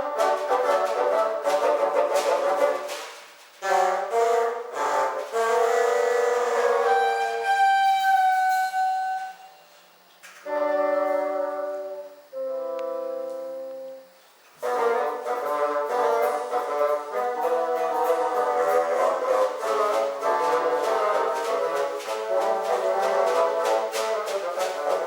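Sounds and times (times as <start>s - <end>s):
bassoon ensemble playing: 0.0s - 9.7s, 10.4s - 14.0s, 14.6s - 25.0s.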